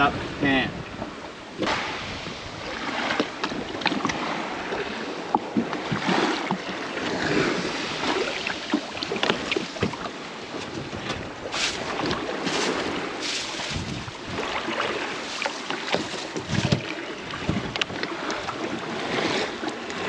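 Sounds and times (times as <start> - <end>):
waves lapping against boat hull: 0.0 - 20.0
wind on microphone: 0.0 - 20.0.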